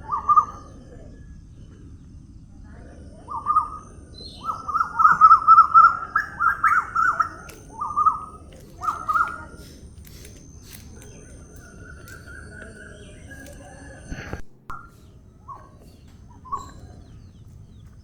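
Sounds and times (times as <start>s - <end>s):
bird chirping: 3.3s - 18.0s.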